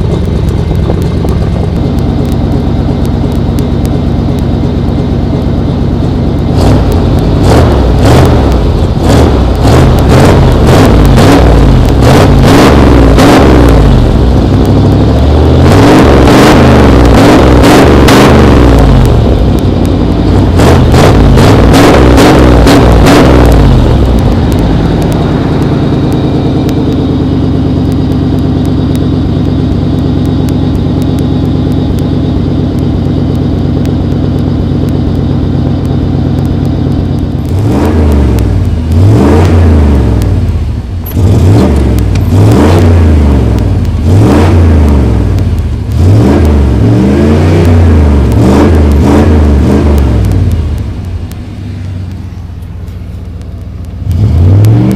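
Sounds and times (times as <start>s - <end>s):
engine idling and revving: 0.0s - 54.9s.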